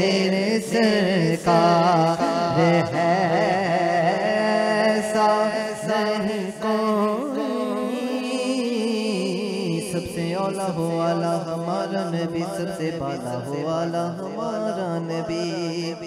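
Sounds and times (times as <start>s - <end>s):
man singing into microphone: 0.0s - 16.0s.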